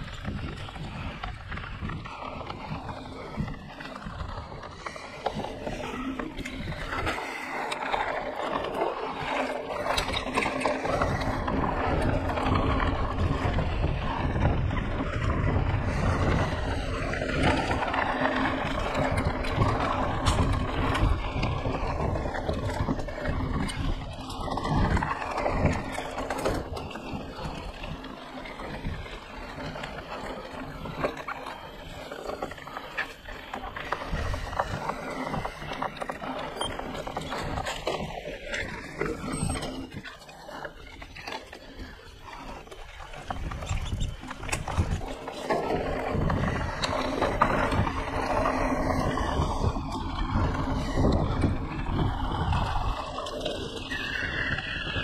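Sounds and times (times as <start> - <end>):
wind buffeting on microphone: 0.0 - 40.1, 40.8 - 55.0.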